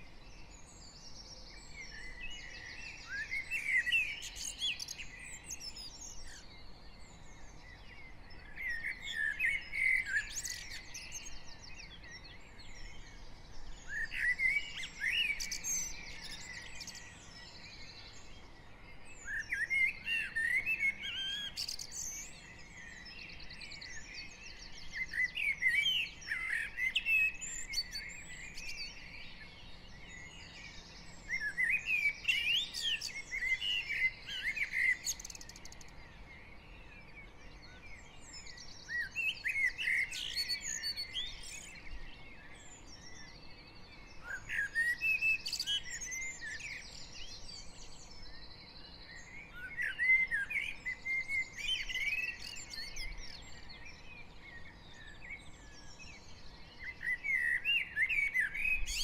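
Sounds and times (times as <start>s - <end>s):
faint high bird chirps: 0.0s - 59.0s.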